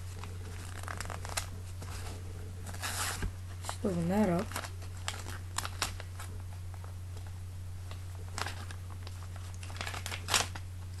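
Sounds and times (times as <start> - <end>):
steady low hum: 0.0 - 11.0
envelope crinkling: 0.1 - 11.0.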